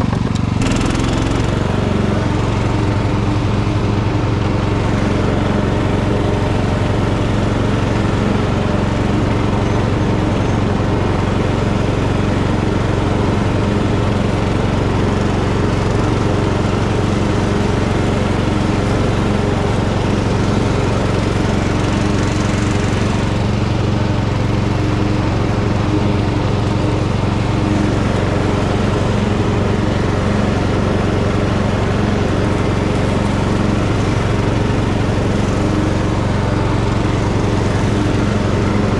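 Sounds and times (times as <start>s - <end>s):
mower whirring: 0.0s - 38.9s
tractor engine running: 0.0s - 38.9s.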